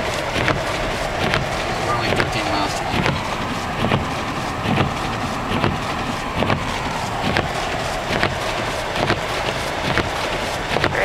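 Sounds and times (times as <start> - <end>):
road and engine noise in car: 0.0 - 11.0
windshield wipers knocking: 0.0 - 11.0.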